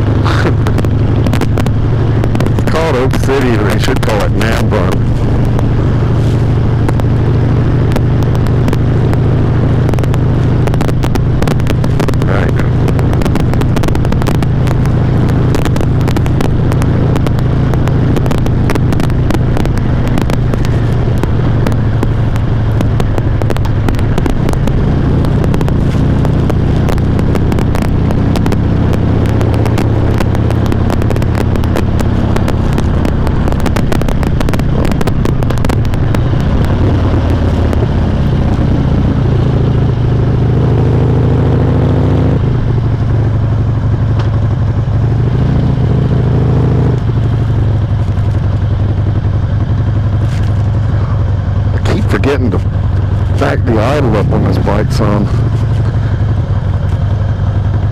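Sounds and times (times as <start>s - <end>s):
distortion crackle: 0.0s - 57.9s
motorcycle engine running: 0.0s - 57.9s.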